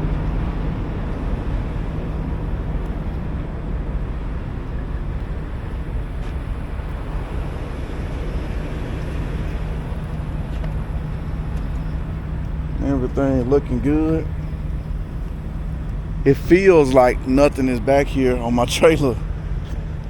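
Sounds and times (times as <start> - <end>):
constant low hum: 0.0 - 20.0
truck engine running: 0.0 - 20.0.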